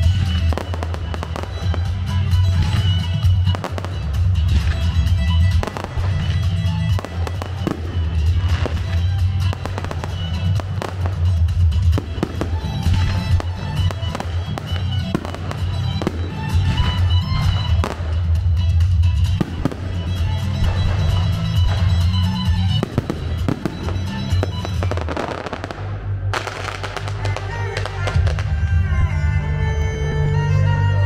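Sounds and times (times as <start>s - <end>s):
loud music with heavy bass: 0.0s - 25.7s
fireworks bangs and crackles: 0.0s - 28.8s.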